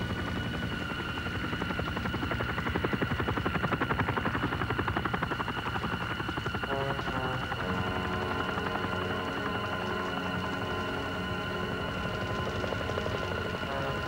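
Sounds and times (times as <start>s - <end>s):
helicopter high whine: 0.0s - 14.0s
helicopter rotor chopping: 0.0s - 14.0s.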